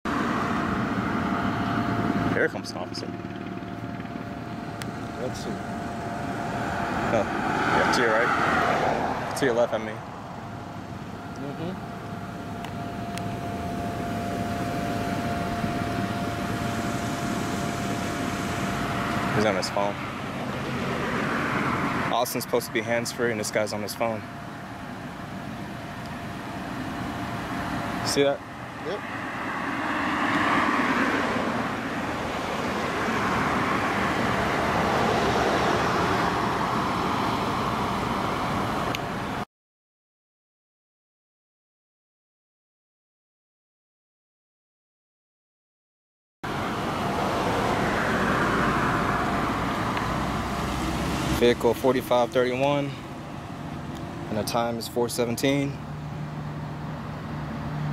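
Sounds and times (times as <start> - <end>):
road traffic noise: 0.0 - 39.5, 46.4 - 57.9
thin steady whine: 0.1 - 39.4, 46.5 - 57.9.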